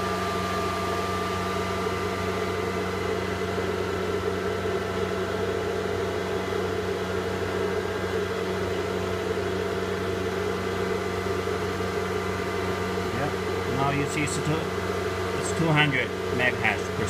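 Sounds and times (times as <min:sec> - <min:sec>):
cooling fan whooshing: 0:00.0 - 0:17.0.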